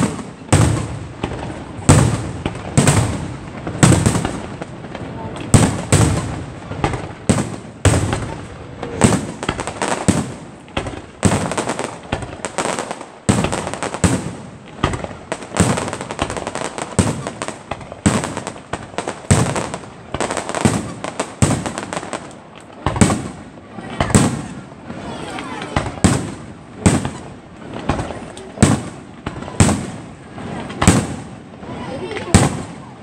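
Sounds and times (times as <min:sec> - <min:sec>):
fireworks bursting with echo: 0:00.0 - 0:33.0.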